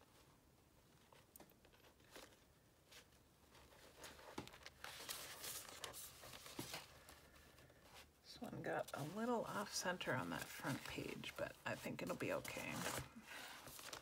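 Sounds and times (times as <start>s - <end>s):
paper pages rustling: 0.9s - 8.1s, 8.8s - 14.0s.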